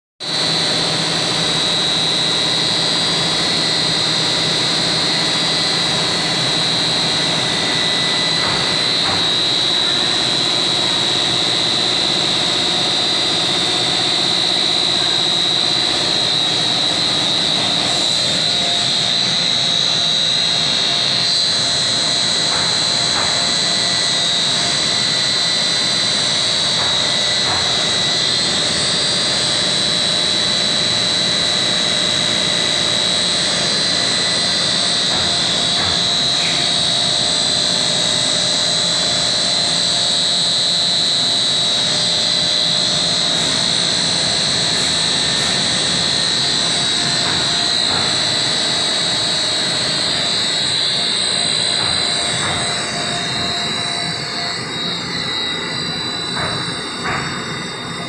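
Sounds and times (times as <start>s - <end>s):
high-pitched machine whine: 0.2s - 58.0s
machine hum: 0.3s - 58.0s.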